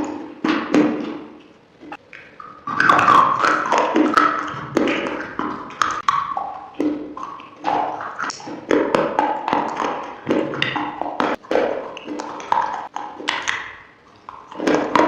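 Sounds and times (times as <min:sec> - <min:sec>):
chewing crunchy food: 0:01.2 - 0:15.0.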